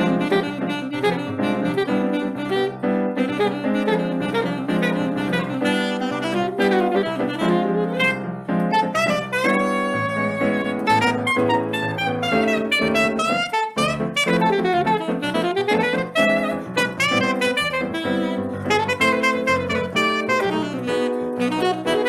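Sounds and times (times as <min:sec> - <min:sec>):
band accompaniment with piano: 0:00.0 - 0:22.0
saxophone melody: 0:00.0 - 0:22.0.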